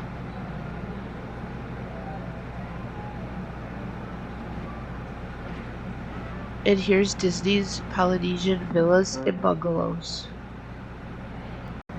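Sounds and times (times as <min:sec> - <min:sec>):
ferry engine droning: 0:00.0 - 0:11.9.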